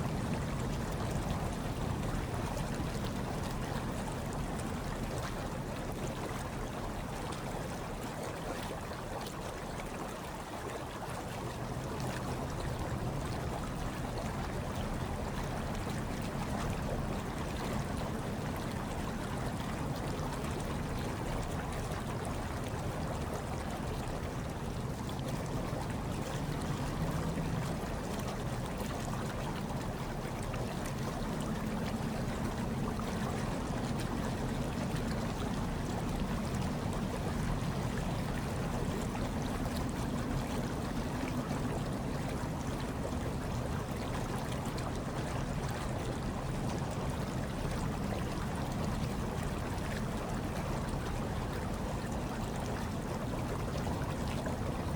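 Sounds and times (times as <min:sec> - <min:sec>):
hot tub water bubbling: 0:00.0 - 0:54.9.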